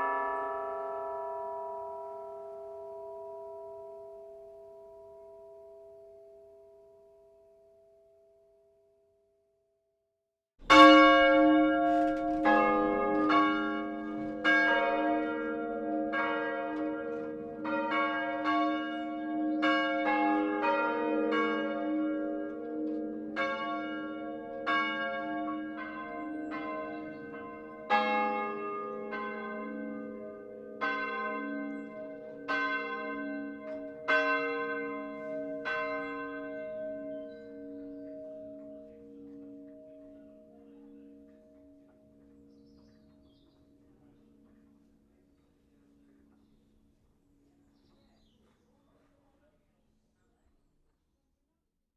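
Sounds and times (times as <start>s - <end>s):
church bells ringing: 0.0s - 8.8s, 10.6s - 48.0s.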